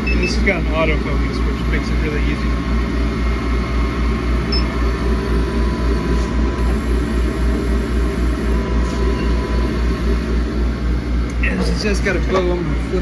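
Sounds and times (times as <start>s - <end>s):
machinery humming with pulsing throb: 0.0s - 13.0s.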